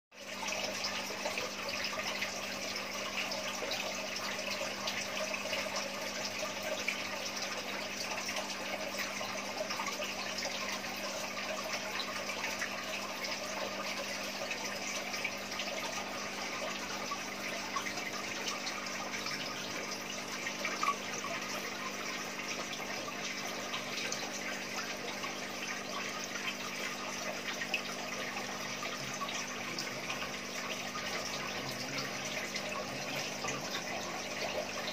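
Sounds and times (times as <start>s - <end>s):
aquarium water splashing: 0.2s - 34.9s.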